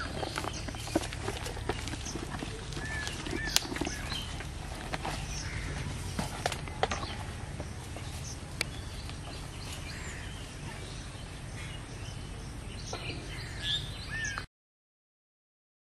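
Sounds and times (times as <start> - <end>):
steady low rumble: 0.0 - 14.2
bird chirping: 0.0 - 14.5.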